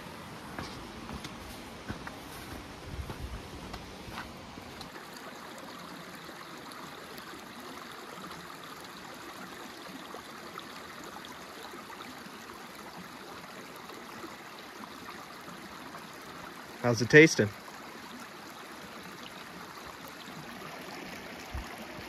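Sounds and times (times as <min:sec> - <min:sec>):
stream trickling over rocks: 0:00.0 - 0:22.0.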